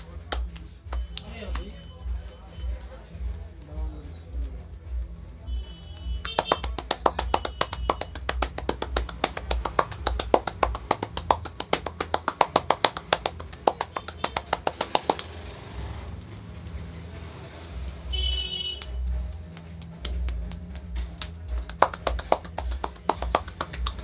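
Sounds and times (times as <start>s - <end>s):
background music with low beat: 0.0s - 24.0s
rapid hand taps: 0.0s - 24.0s.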